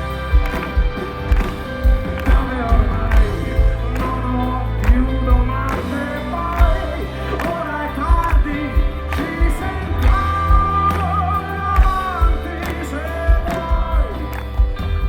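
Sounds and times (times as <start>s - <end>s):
live pop-rock band playing: 0.0s - 15.0s.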